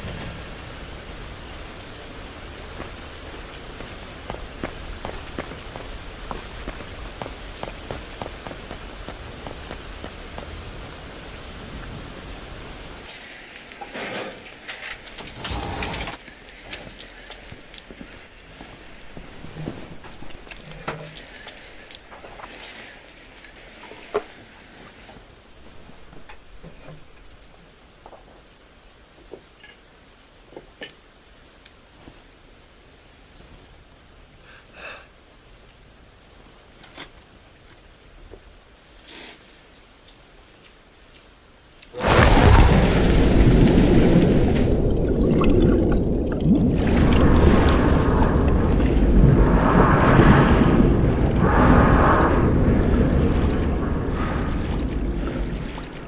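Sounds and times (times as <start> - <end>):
rain on a wet street: 0.0 - 56.0.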